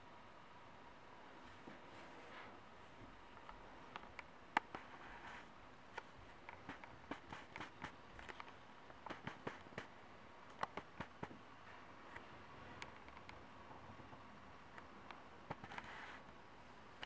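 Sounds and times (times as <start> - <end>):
quiet hiss: 0.0 - 17.0.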